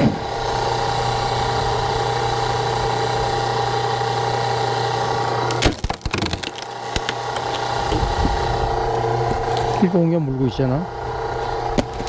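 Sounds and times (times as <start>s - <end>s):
log splitter power unit humming: 0.0s - 12.0s.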